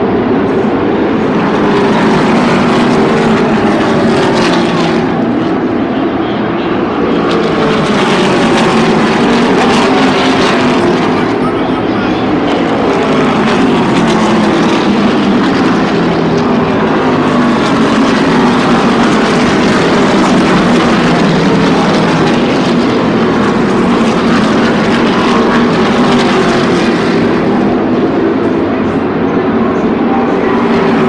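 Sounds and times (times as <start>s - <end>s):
race car engines droning: 0.0s - 31.0s.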